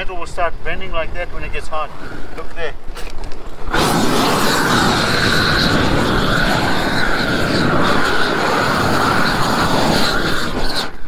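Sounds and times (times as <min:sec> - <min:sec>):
roofing torch burning: 0:00.0 - 0:11.0.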